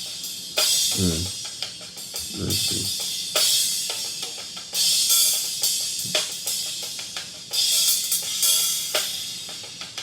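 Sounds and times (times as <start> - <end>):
faint snare and kick drum: 0.0 - 10.0
hi-hat strikes: 0.0 - 10.0
open hi-hat washes: 0.0 - 10.0.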